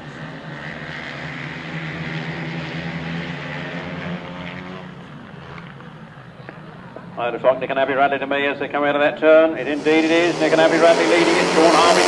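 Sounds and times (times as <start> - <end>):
racing engines running hard: 0.0 - 8.2, 9.4 - 12.0.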